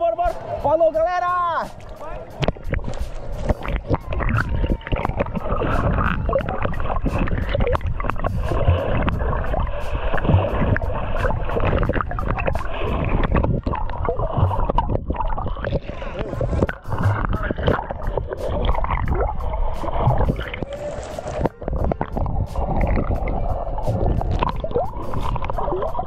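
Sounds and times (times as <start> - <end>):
water sloshing and splashing: 1.6 - 26.0.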